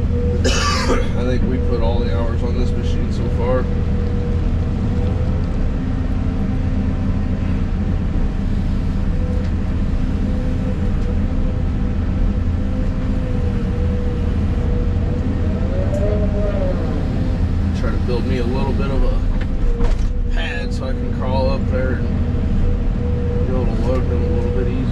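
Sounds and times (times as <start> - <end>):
excavator engine rumble: 0.0 - 24.9.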